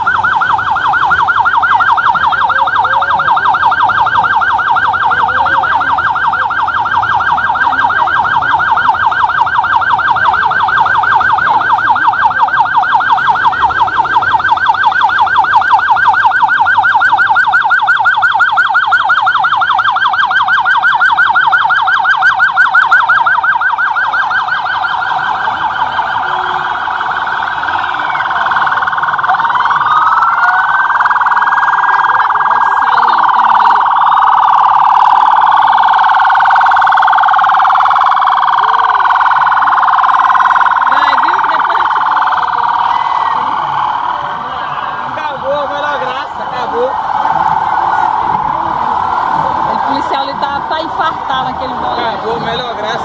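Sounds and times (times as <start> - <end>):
police siren yelping: 0.0 - 53.0.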